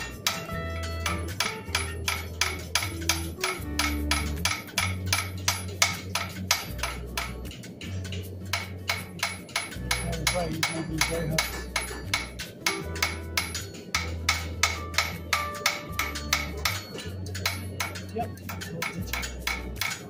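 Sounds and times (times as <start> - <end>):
hammer striking metal on anvil: 0.0 - 20.0.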